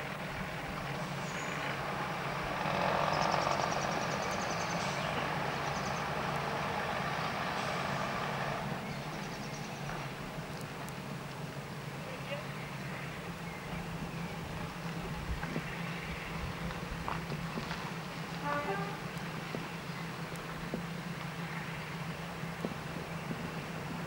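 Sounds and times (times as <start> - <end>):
train diesel engines droning: 0.0 - 24.0.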